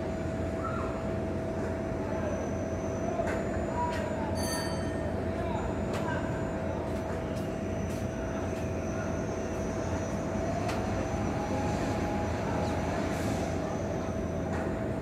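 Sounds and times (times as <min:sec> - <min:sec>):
low urban rumble: 0:00.0 - 0:15.0.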